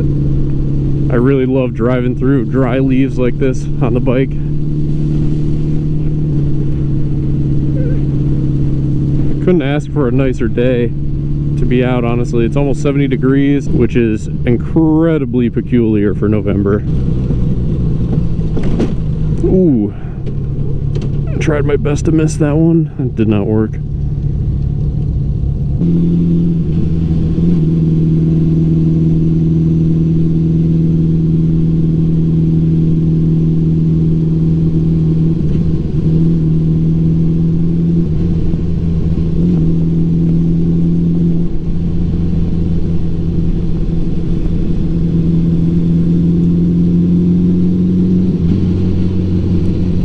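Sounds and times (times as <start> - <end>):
motorcycle engine humming: 0.0 - 50.0.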